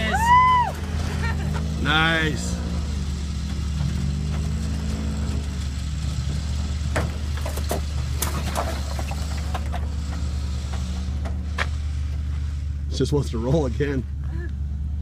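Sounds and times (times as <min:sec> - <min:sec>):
buggy engine running: 0:00.0 - 0:15.0.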